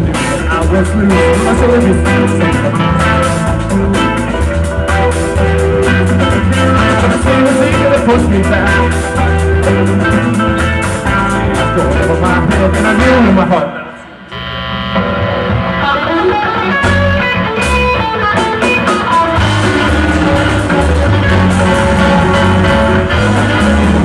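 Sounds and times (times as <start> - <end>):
drum kit beat: 0.0 - 13.5, 15.0 - 24.0
amplified electric guitars: 0.0 - 24.0.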